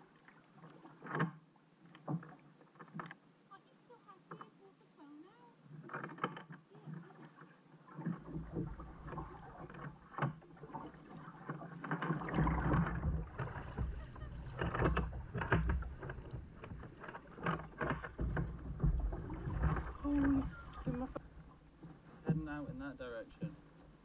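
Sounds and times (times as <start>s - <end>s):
paddle splashing in water: 0.0s - 3.4s, 5.6s - 24.0s.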